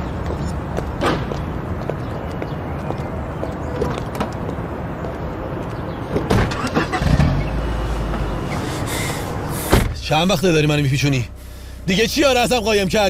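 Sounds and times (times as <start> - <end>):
outdoor traffic noise: 0.0 - 13.0.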